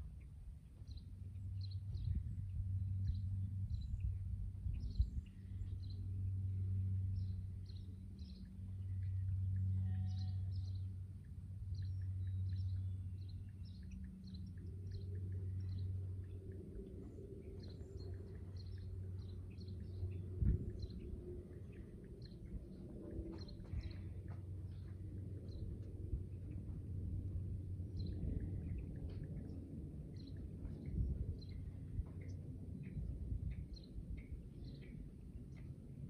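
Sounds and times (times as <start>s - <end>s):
low hum: 0.0s - 36.0s
small birds chirping: 0.2s - 26.9s, 27.9s - 35.7s.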